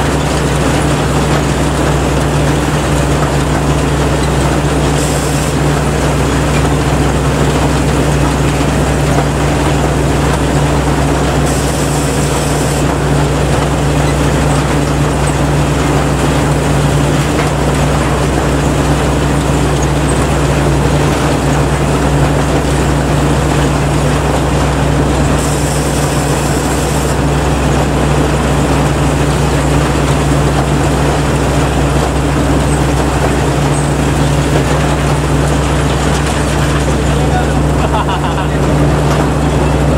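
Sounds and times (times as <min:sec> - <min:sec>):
combine harvester engine drone: 0:00.0 - 0:39.9
rush of machinery: 0:00.0 - 0:39.9.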